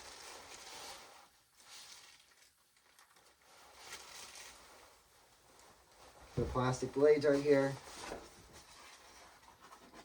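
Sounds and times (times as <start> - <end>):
faint rustling of packaging: 0.0 - 10.0.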